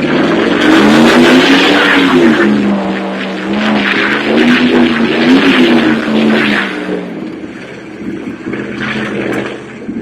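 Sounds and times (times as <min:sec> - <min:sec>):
engine rumbling and revving: 0:00.0 - 0:10.0.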